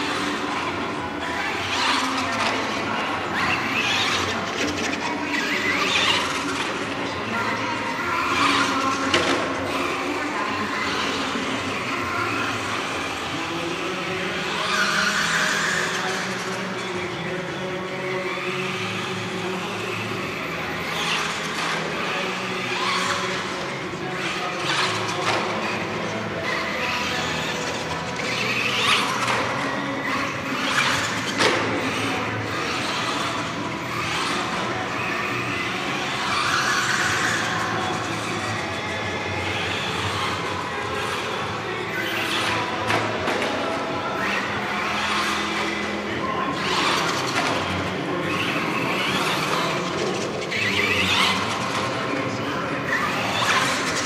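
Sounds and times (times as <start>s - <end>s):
music: 0.0s - 54.0s
toy truck motor whining: 0.0s - 54.0s.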